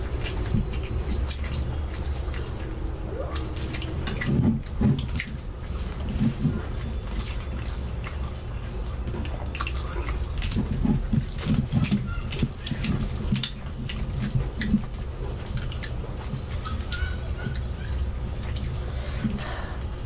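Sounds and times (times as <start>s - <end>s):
steady low hum: 0.0s - 20.0s
wet chewing: 0.0s - 20.0s.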